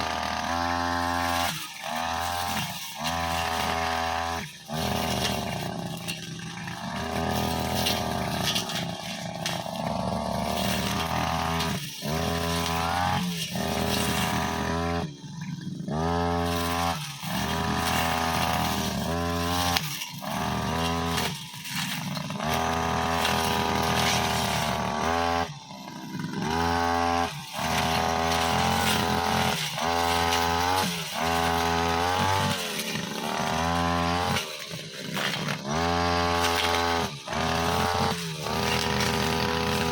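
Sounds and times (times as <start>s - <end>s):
blade cutting grass: 0.0s - 39.9s
brushcutter engine revving: 0.0s - 39.9s.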